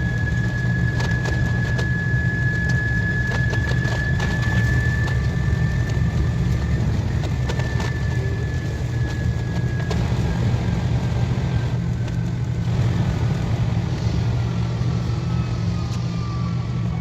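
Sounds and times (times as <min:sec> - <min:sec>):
faint whine falling in pitch: 0:00.0 - 0:17.0
high-speed train rumbling: 0:00.0 - 0:17.0.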